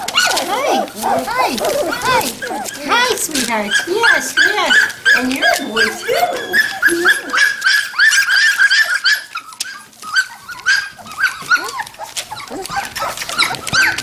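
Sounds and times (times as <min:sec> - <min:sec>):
puppies yipping and whining: 0:00.0 - 0:14.0.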